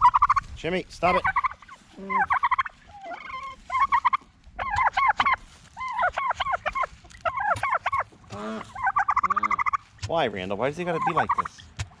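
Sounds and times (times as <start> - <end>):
low turkey call: 0.0 - 0.4, 1.2 - 10.1, 10.8 - 11.9
turkeys gobbling: 0.0 - 0.4, 1.0 - 12.0.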